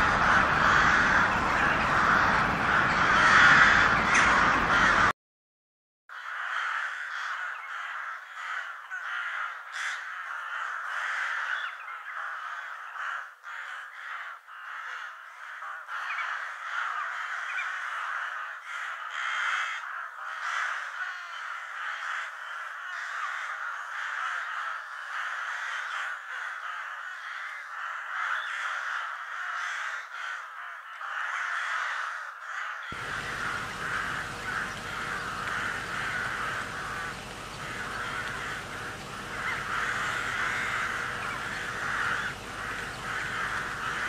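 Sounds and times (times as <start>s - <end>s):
crows cawing: 0.0s - 5.1s, 6.1s - 44.0s.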